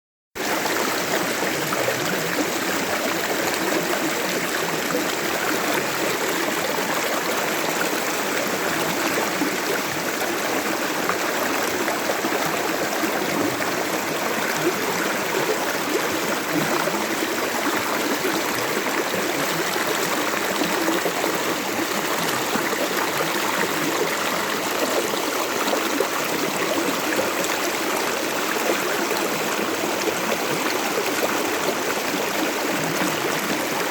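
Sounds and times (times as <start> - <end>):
stream gurgling over rocks: 0.4 - 33.9.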